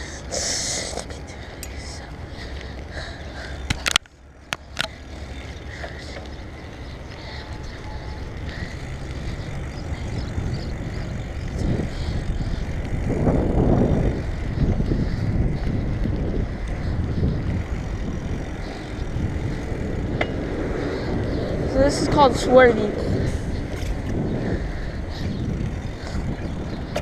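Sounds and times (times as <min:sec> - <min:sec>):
bike rattling on rough ground: 0:01.5 - 0:27.0
wind rushing over microphone: 0:04.6 - 0:27.0.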